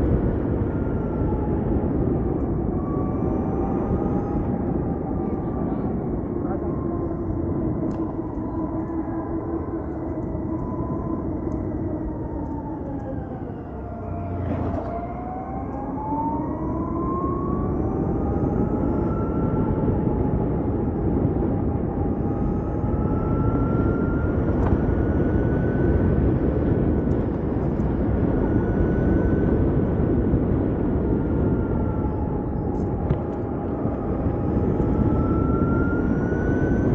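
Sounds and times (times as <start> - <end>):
electric scooter motor whine: 0.0 - 36.9
wind and road rush: 0.0 - 36.9.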